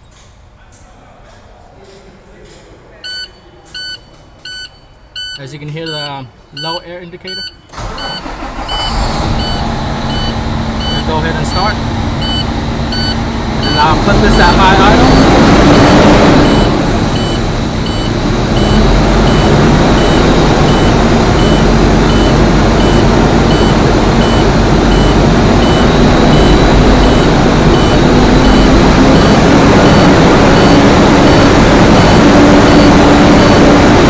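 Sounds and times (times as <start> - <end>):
warning buzzer beeping: 3.1 - 34.0
diesel engine idling: 5.2 - 34.0.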